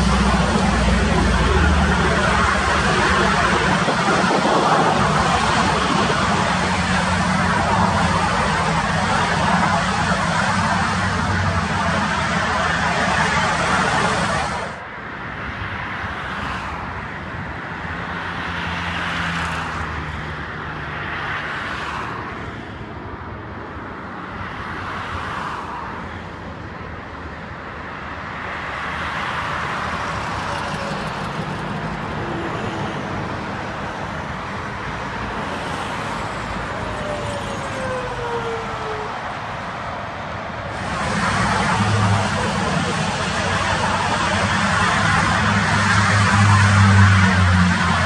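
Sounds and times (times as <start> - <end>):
vehicles driving past: 0.0 - 48.0.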